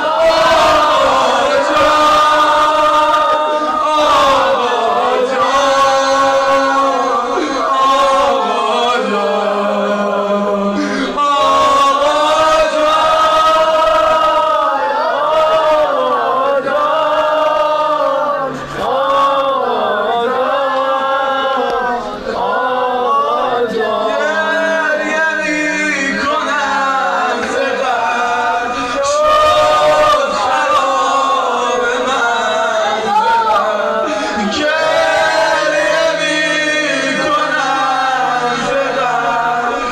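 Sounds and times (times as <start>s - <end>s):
man chanting a lament: 0.0s - 39.9s.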